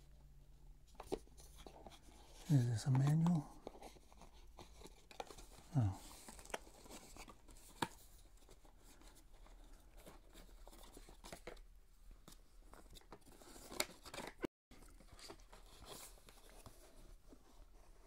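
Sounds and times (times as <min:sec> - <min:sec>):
cardboard and paper rustling: 0:00.9 - 0:18.0.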